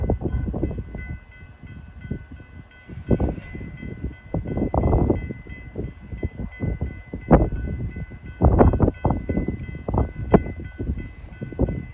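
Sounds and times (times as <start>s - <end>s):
freight train rumbling: 0.0s - 11.9s.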